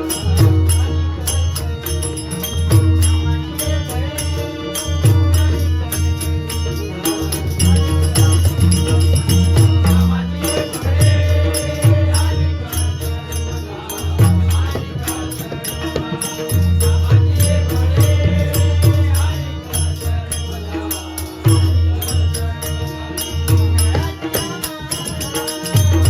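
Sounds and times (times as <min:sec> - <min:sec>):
chanted voices: 0:00.0 - 0:26.0
harmonium tones: 0:00.0 - 0:26.0.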